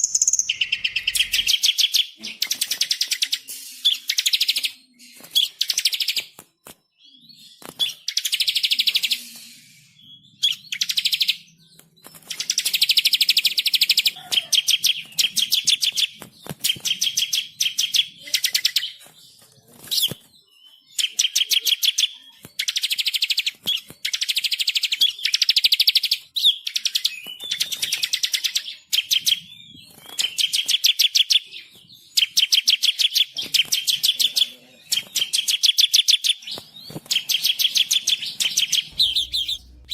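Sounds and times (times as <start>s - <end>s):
songbird singing chattering phrases: 0.0s - 6.4s, 7.1s - 29.7s, 30.3s - 39.9s.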